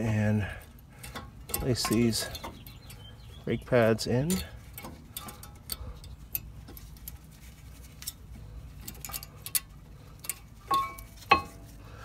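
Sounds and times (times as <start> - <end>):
metallic clicks of brake pads: 0.0 - 12.0.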